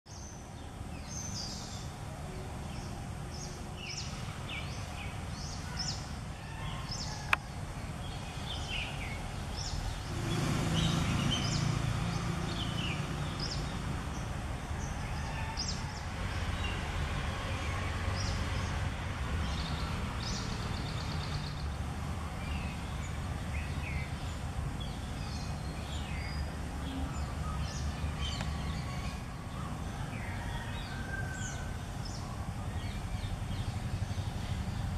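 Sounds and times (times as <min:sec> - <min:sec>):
small birds chirping: 0:00.1 - 0:16.9, 0:17.5 - 0:34.9.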